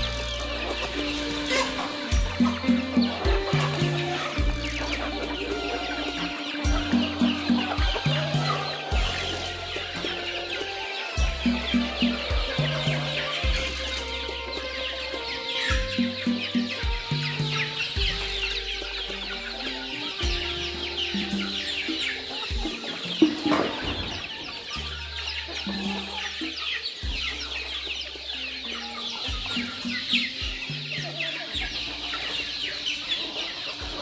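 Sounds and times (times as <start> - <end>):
chicks cheeping and clucking: 0.0 - 34.0
music with slow bass line: 0.0 - 34.0.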